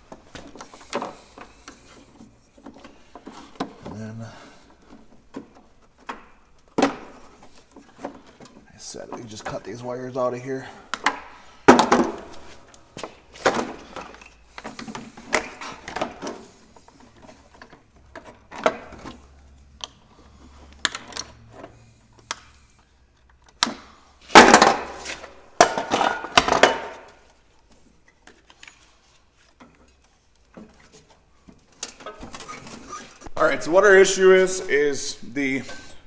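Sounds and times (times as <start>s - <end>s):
hand tools and parts clattering: 0.0s - 36.0s.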